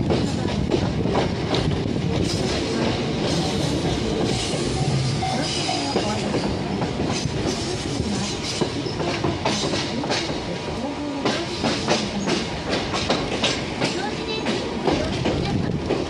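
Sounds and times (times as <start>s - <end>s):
train rumble inside carriage: 0.0s - 16.0s
wheels clacking over rail joints: 0.0s - 16.0s.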